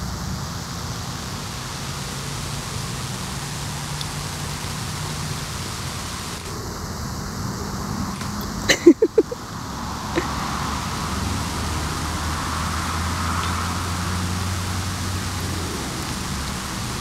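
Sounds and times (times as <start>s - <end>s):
sprinkler spraying water: 0.0s - 17.0s.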